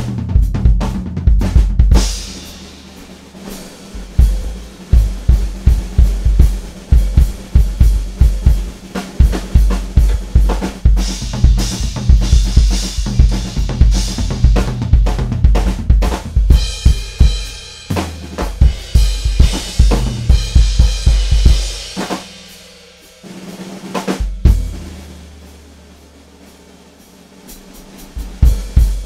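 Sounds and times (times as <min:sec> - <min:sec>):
drum solo: 0:00.0 - 0:29.0.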